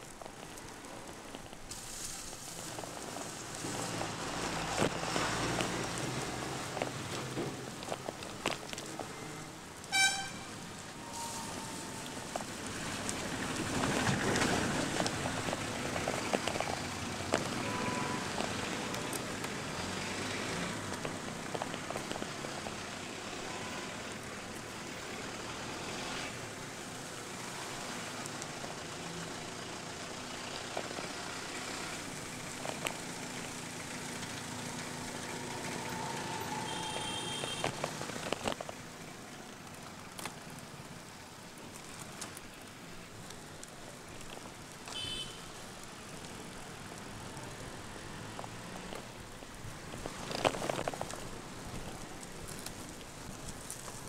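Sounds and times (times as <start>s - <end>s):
bike tyres on wet road: 0.0s - 54.0s
rain hissing: 0.0s - 54.0s
raindrops ticking on camera: 0.0s - 54.0s.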